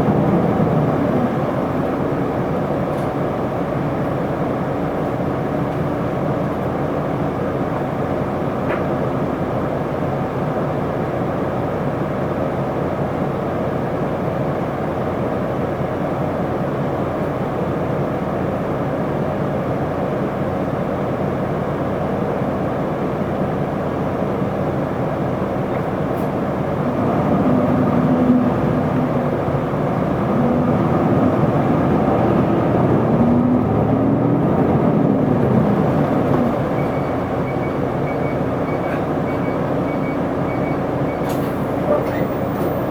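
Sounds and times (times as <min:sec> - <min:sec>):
bus diesel engine running: 0:00.0 - 0:42.9
road noise: 0:00.0 - 0:42.9.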